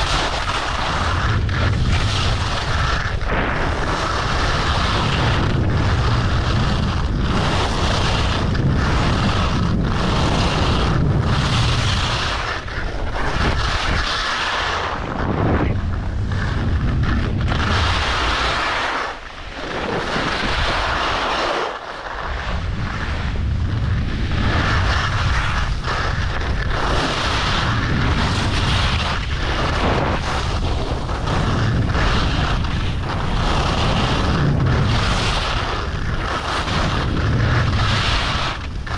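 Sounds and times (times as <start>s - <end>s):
ski edges scraping snow: 0.0s - 38.9s
wind buffeting microphone: 0.0s - 38.9s.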